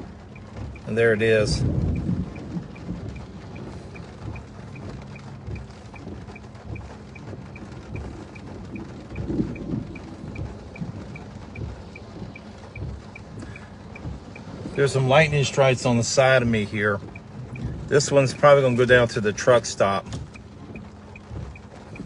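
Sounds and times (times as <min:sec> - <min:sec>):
low uneven rumble: 0:00.0 - 0:22.0.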